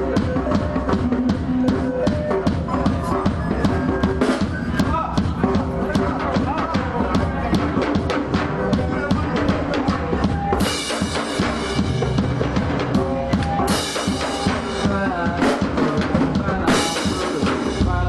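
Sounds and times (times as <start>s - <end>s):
live band playing instrumental: 0.0s - 18.0s.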